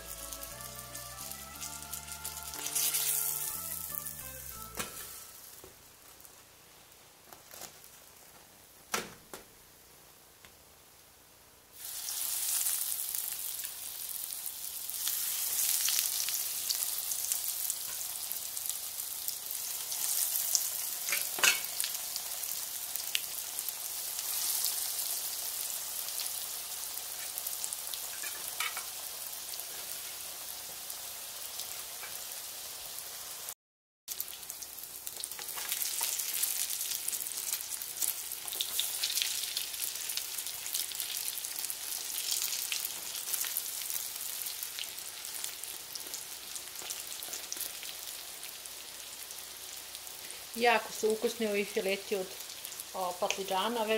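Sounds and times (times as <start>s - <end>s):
food sizzling in hot oil: 0.0s - 8.2s, 11.7s - 53.9s.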